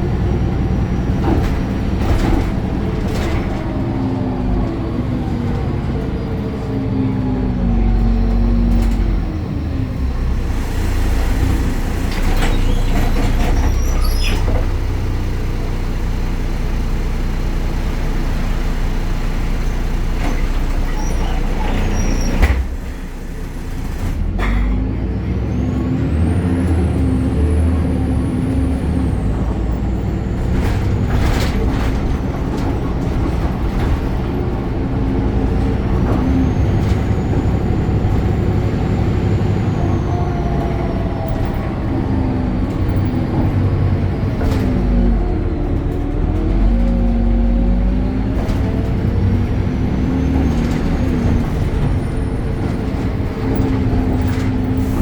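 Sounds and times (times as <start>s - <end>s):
bus diesel engine driving: 0.0s - 55.0s.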